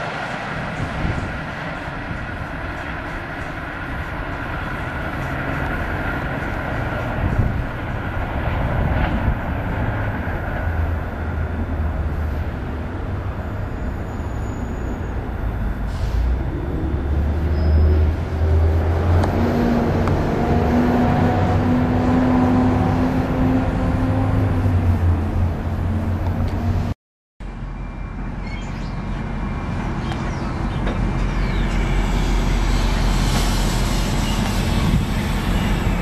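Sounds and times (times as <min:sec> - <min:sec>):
engine drone climbing in pitch: 0:00.0 - 0:36.0
train wheels and engine rumble: 0:00.0 - 0:36.0.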